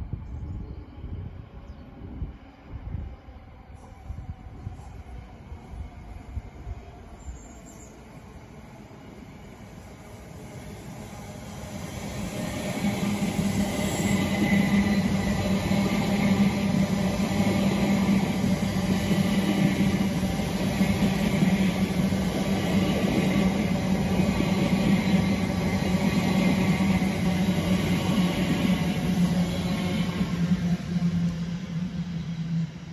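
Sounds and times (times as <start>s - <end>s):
train passing on rails: 0.0s - 32.9s.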